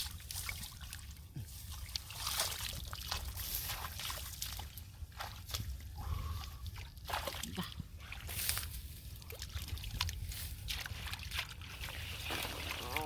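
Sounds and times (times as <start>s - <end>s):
shallow water sloshing: 0.0s - 13.0s.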